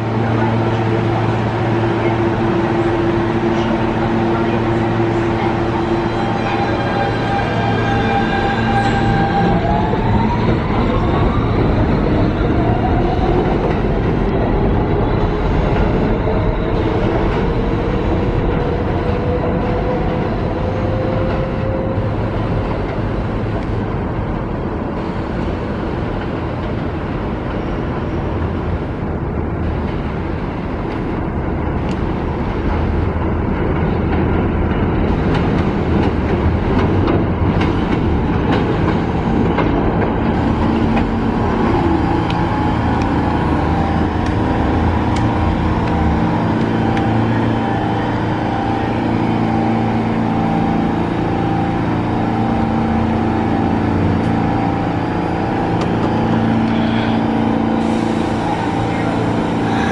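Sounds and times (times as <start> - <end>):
steady humming tones: 0.0 - 59.9
subway train wheels rumbling: 0.0 - 59.9.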